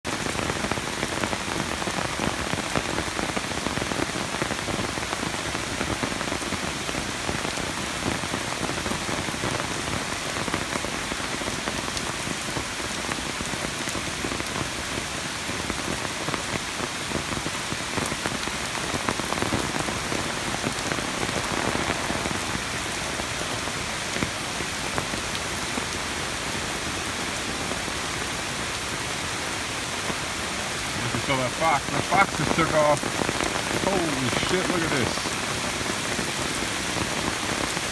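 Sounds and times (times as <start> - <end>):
hiss of rushing water: 0.3 - 37.9.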